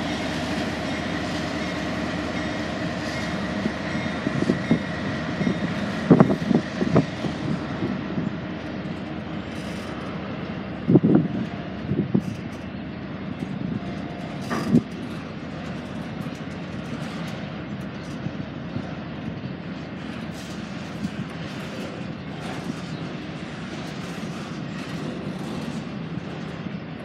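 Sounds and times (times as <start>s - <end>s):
freight train cars rolling: 0.0s - 27.0s.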